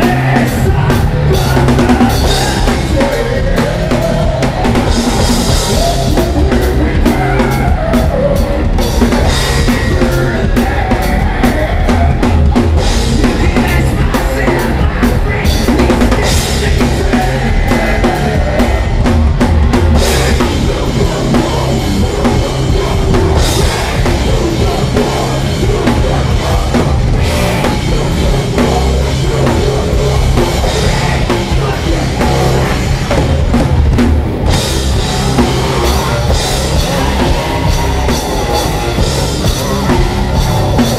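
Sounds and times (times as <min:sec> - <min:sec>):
heavy bass drum: 0:00.0 - 0:40.9
live rock band playing loudly: 0:00.0 - 0:40.9.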